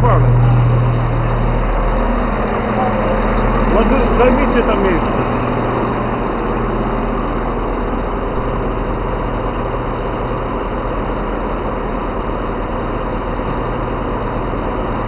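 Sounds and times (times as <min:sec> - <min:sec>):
train engines humming: 0:00.0 - 0:15.0.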